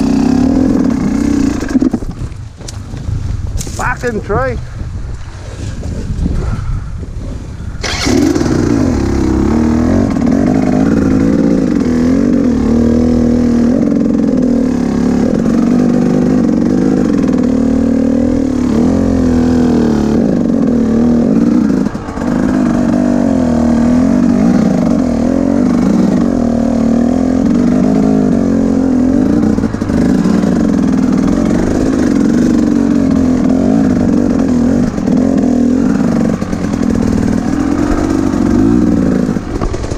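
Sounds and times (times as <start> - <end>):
dirt bike engine revving: 0.0 - 2.1, 7.8 - 39.9.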